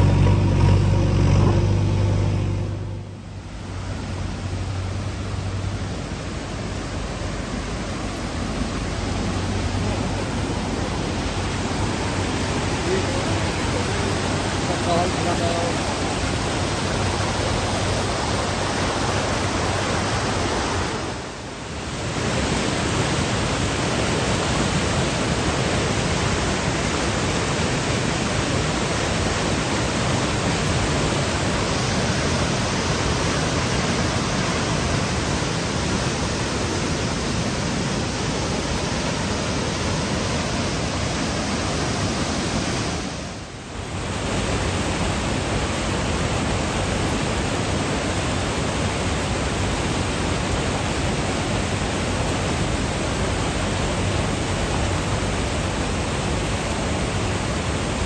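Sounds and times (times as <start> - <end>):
flood torrent rushing: 0.0 - 58.0.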